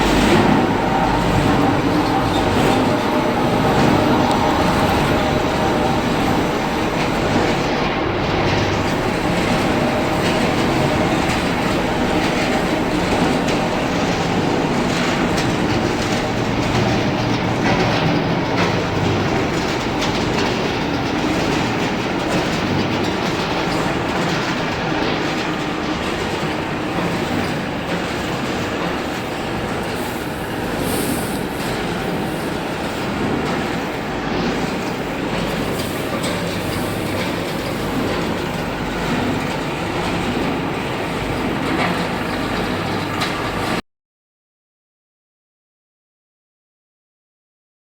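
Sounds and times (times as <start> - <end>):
machinery rumbling: 0.0 - 43.8.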